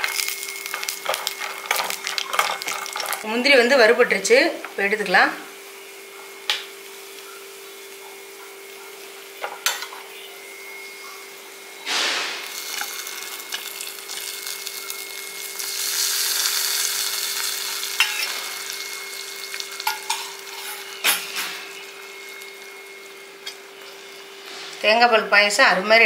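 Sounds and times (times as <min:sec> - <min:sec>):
hot oil sizzling: 0:00.0 - 0:25.6.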